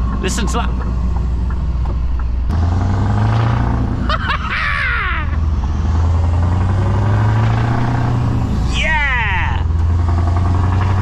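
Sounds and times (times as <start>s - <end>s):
lorry diesel engine pulling hard: 0.0s - 11.0s.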